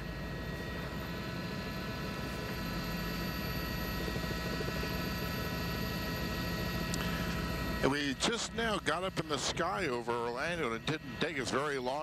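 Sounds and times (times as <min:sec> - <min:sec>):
helicopter rotor and engine: 0:00.0 - 0:12.0
helicopter whine: 0:00.0 - 0:12.0.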